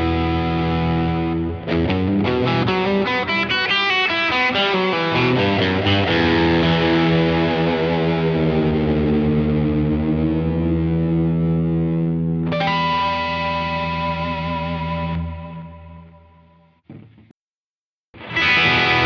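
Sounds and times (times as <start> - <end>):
overdriven electric guitar chords: 0.0 - 17.2, 18.2 - 19.0.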